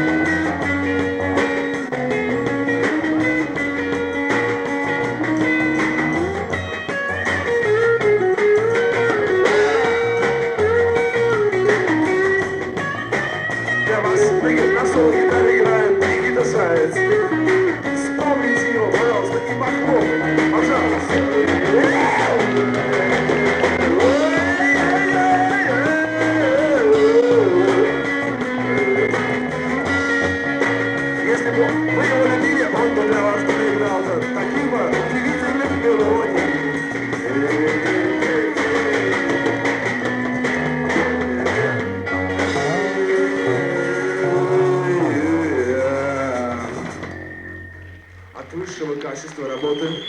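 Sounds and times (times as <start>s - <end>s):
lead melody with bending notes: 0.0s - 49.8s
bass line: 0.0s - 50.0s
drums: 0.0s - 50.0s
live rock band playing: 0.0s - 50.0s.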